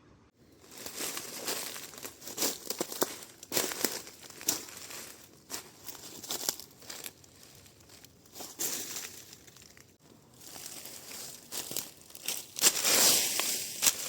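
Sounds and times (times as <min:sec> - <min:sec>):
dry leaves and soil rustling: 0:00.4 - 0:14.0.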